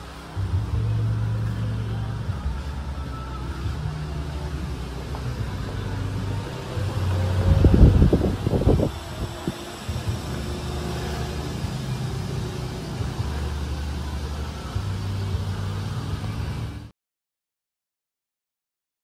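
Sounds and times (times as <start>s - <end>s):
low background rumble: 0.0s - 16.9s
scooter engine idling: 0.0s - 16.9s.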